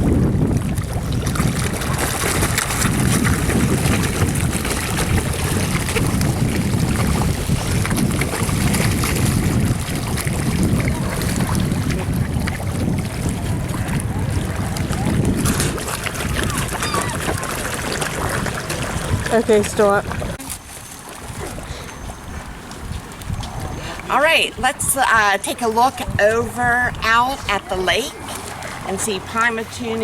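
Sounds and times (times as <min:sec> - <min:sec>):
water splashing and churning: 0:00.0 - 0:30.0
wind buffeting microphone: 0:00.0 - 0:30.0.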